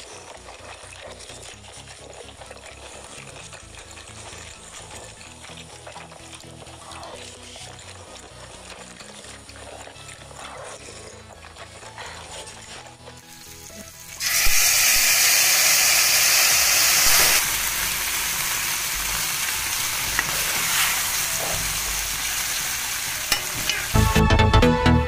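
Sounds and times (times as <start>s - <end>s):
chewing and tearing meat: 0.0s - 14.8s, 15.5s - 23.2s
faint background music: 0.0s - 25.0s.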